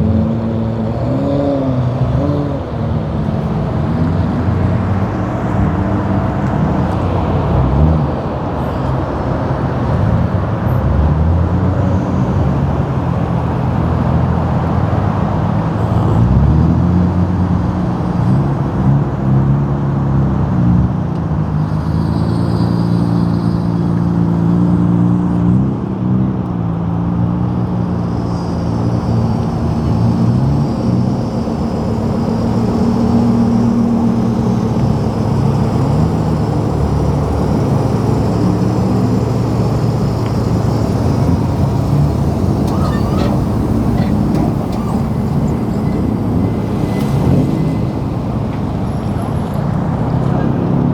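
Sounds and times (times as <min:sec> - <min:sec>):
car engines revving: 0:00.0 - 0:50.9.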